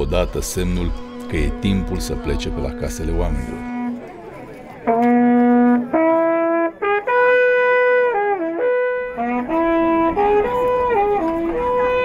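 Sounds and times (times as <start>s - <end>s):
wooden horns blowing long notes: 0.0s - 12.0s.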